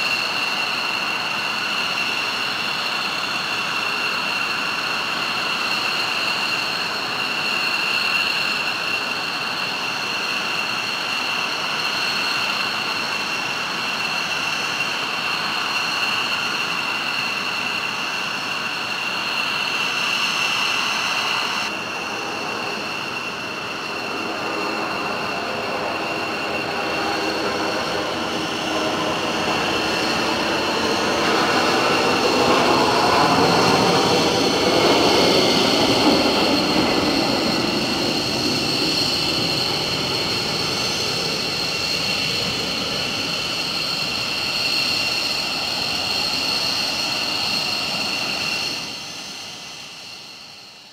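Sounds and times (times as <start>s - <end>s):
high jet engine whine: 0.0s - 50.9s
jet engines roaring at takeoff: 0.0s - 50.9s.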